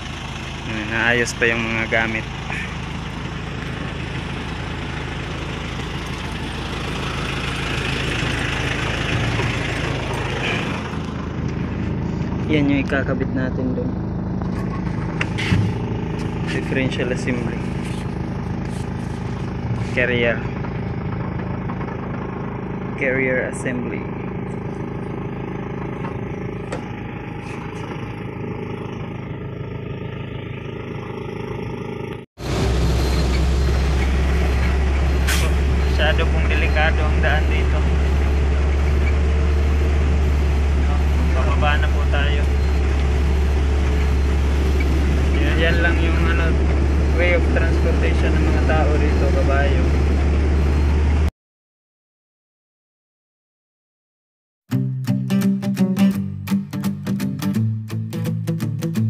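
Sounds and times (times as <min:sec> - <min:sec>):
truck engine idling: 0:00.0 - 0:51.3.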